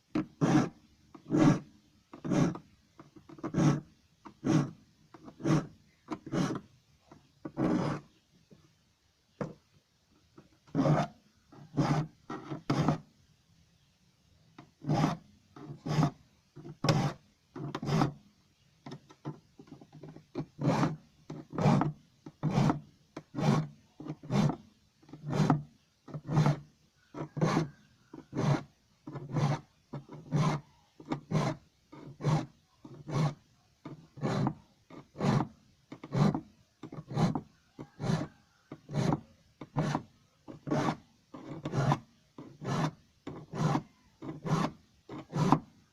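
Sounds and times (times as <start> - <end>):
file rasping on saw teeth: 0.2 - 2.6, 3.2 - 6.7, 7.5 - 8.1, 10.7 - 13.1, 14.8 - 16.2, 16.8 - 18.2, 20.0 - 45.7.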